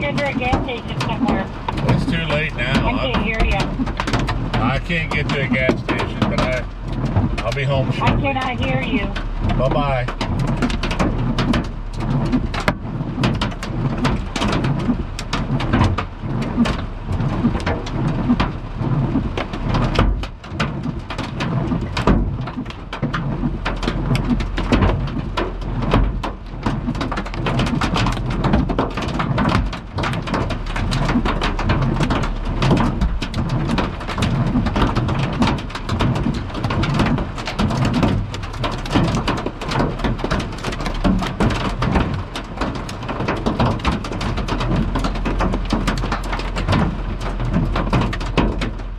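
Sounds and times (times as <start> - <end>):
hail and rain on a car roof: 0.0 - 48.9
low rumble: 0.0 - 48.9.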